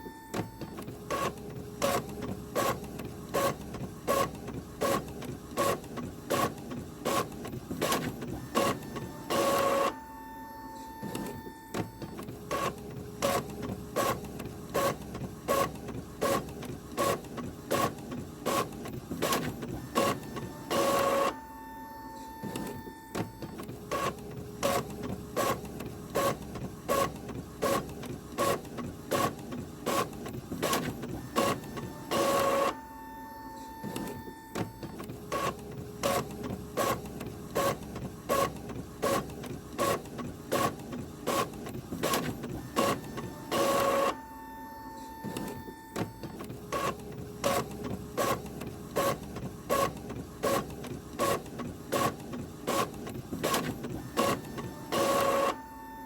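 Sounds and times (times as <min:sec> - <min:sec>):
printer whine: 0:00.0 - 0:56.0
loud printer mechanical burst: 0:00.1 - 0:10.1, 0:11.0 - 0:56.0.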